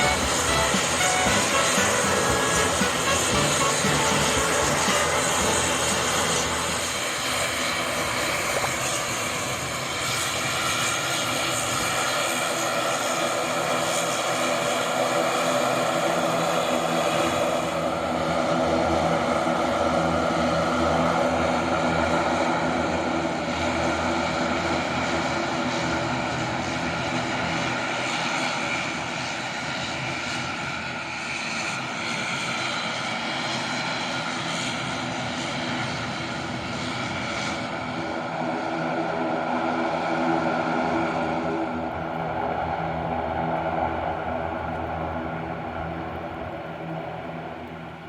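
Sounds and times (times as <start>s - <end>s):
engine drone: 0.0s - 48.0s.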